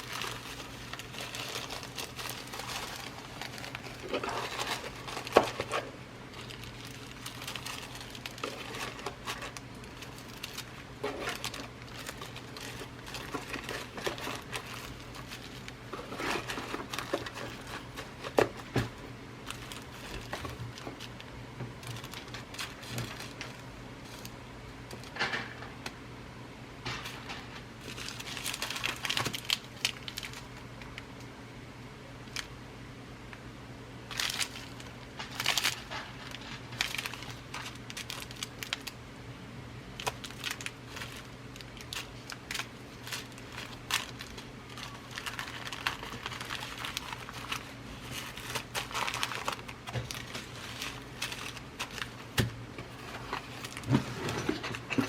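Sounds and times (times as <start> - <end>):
packaging rustling and crinkling: 0.0 - 25.6, 27.0 - 31.0, 34.1 - 39.0, 39.9 - 55.0.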